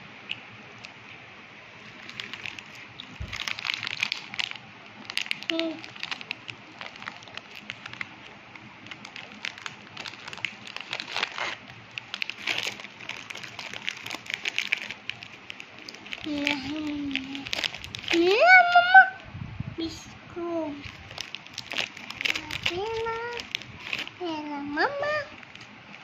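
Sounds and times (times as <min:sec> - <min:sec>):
plastic wrapper crinkling: 0:01.8 - 0:18.8, 0:20.7 - 0:26.0.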